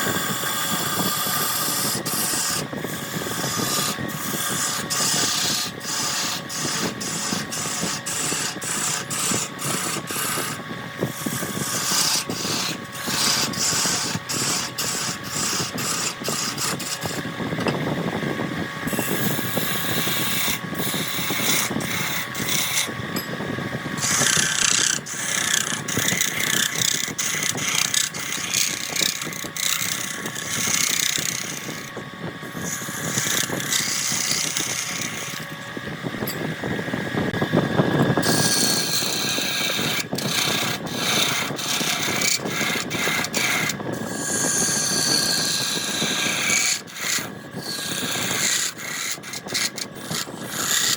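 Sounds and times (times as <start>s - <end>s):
wood lathe turning log: 0.0s - 17.8s, 18.6s - 23.3s, 23.9s - 50.9s
turning tool knocking and scraping: 0.0s - 17.9s, 18.9s - 36.6s, 37.9s - 50.9s.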